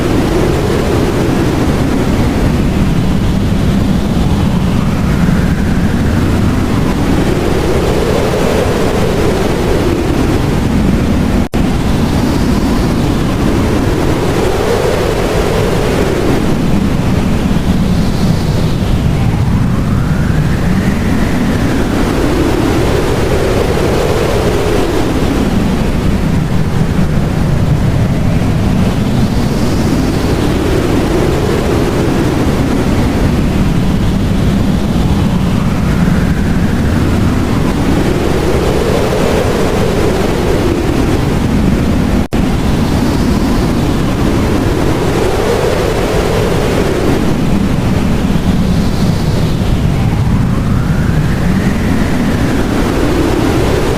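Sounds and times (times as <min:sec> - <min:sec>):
howling blizzard wind: 0:00.0 - 0:53.9.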